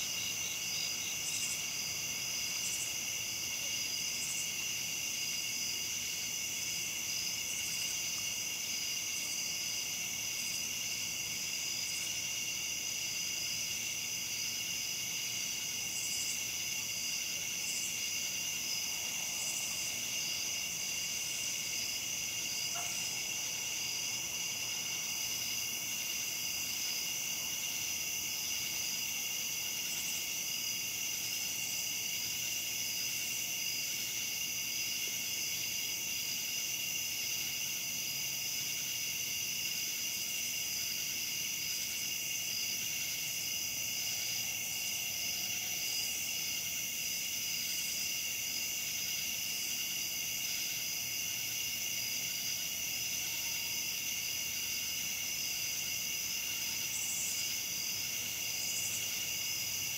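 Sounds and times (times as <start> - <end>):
crickets and katydids trilling: 0.0 - 59.9.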